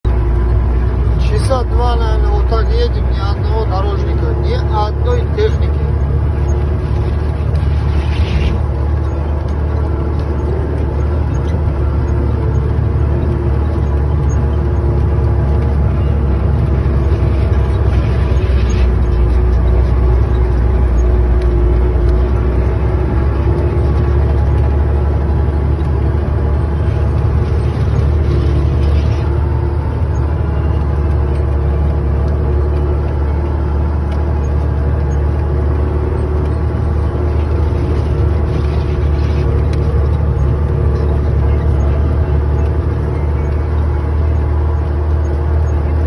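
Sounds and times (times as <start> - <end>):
road noise: 0.0 - 46.0
truck diesel engine droning: 0.0 - 46.0.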